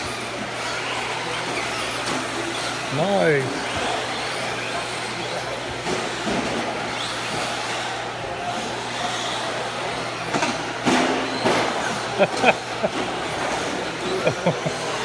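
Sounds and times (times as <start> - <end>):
toy trucks whirring: 0.0 - 15.0.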